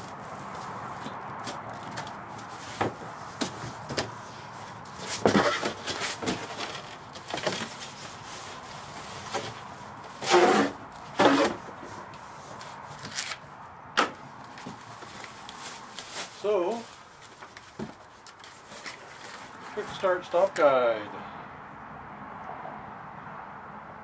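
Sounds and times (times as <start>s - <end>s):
cardboard scraping and rubbing: 0.0s - 13.4s, 14.4s - 20.5s.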